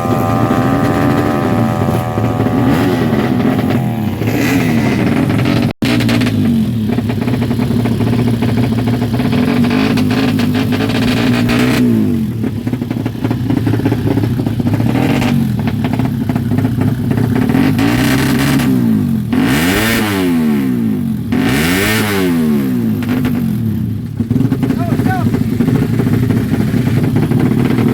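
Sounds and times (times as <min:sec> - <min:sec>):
motorcycle engine idling: 0:00.0 - 0:19.4, 0:22.8 - 0:27.9
throttle blips revving engine: 0:00.0 - 0:27.9.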